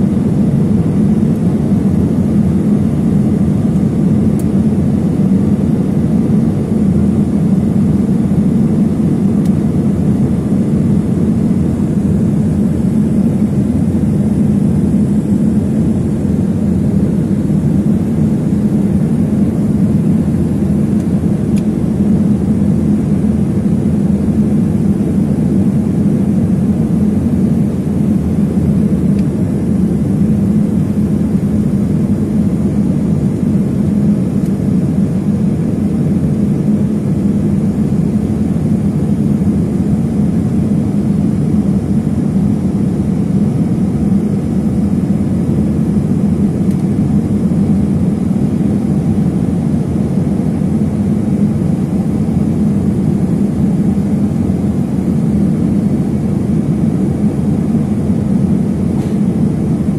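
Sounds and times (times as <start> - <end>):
jet cabin engine rumble: 0.0 - 59.9.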